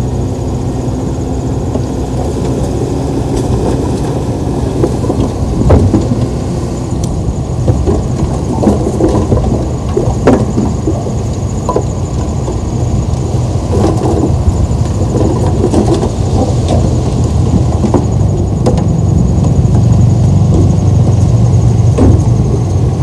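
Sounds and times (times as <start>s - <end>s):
diesel machinery engine rumble: 0.0s - 23.0s.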